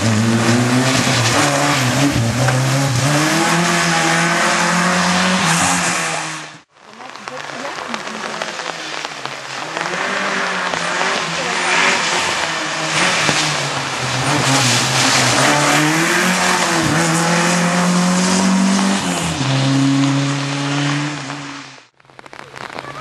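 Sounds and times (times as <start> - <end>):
rally car engine revving: 0.0 - 22.8
tyre and road noise: 0.0 - 23.0.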